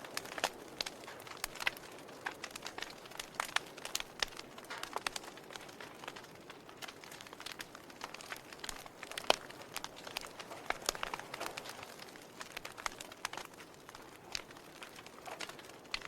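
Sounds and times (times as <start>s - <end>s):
burning logs popping: 0.0s - 16.0s.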